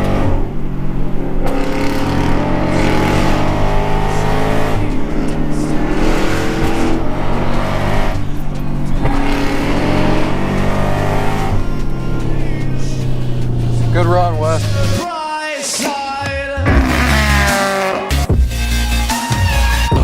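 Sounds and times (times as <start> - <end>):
engine accelerating hard: 0.0 - 15.0, 16.6 - 18.3.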